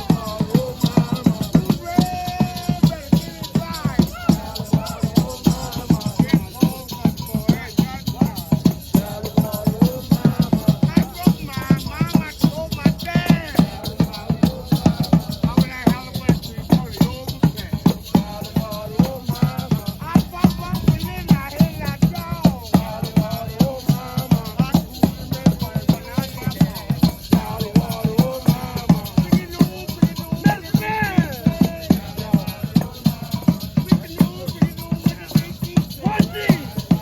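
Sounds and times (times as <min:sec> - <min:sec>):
drums beating fast rhythm: 0:00.0 - 0:37.0
voices chanting: 0:00.0 - 0:37.0.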